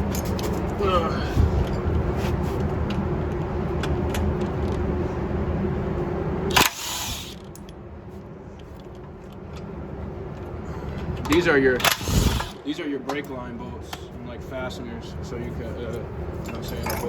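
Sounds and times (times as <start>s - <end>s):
mechanical hum: 0.0s - 17.0s
quiet background hum: 0.0s - 17.0s.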